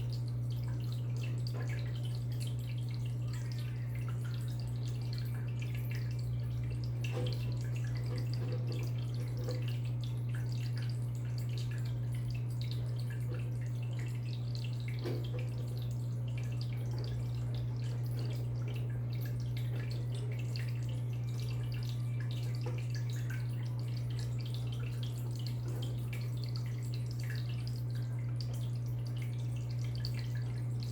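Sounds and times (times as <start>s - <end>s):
low electrical hum: 0.0s - 30.9s
water dripping and trickling: 0.0s - 30.9s.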